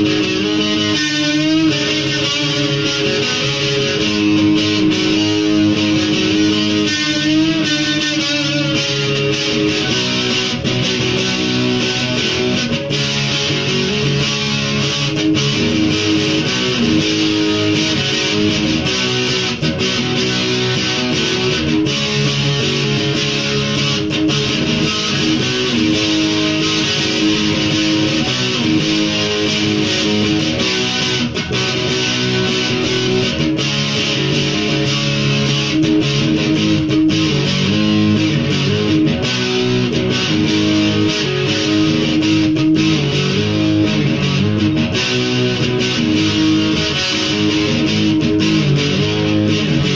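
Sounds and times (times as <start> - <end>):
electric guitar picking: 0.0 - 49.9.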